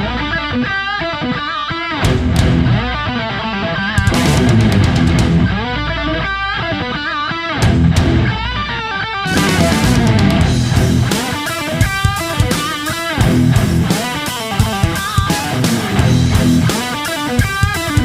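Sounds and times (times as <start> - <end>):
distorted electric guitar riffs: 0.0 - 18.0
rock music: 0.0 - 18.0.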